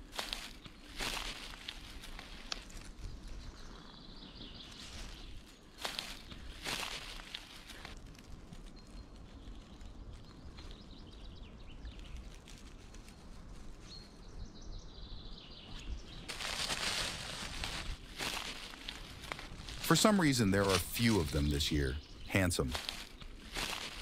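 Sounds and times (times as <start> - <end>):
pine needles and leaves rustling: 0.0 - 14.7, 15.5 - 24.0
birds chirping faintly: 0.0 - 24.0.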